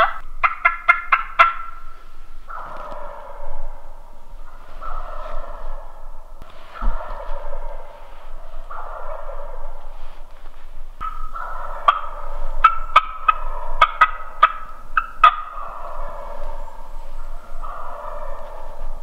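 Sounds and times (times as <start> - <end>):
wild turkeys gobbling: 0.0 - 19.0.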